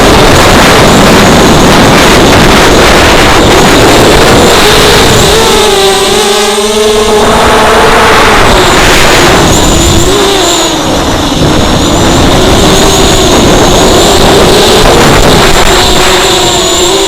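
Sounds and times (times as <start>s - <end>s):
propeller rushing noise: 0.0s - 17.0s
quadcopter motor whine: 0.0s - 17.0s.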